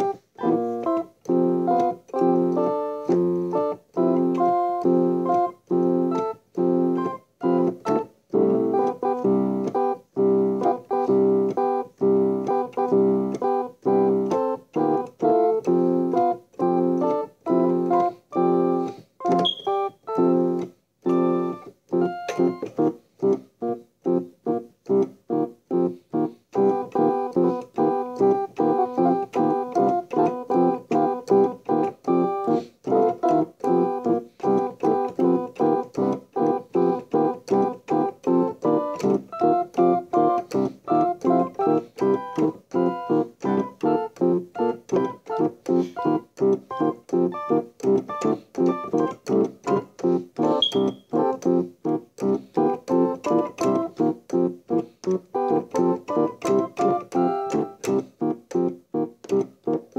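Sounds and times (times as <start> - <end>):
keyboard chords music: 0.0 - 59.9.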